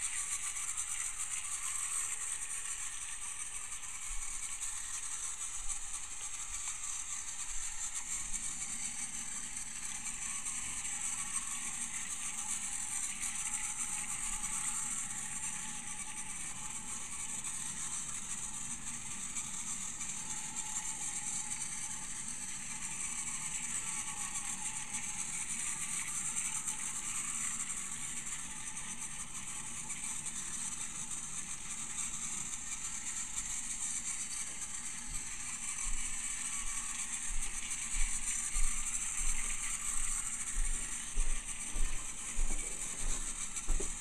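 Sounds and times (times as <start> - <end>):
toy train motor whirring: 0.0 - 44.0.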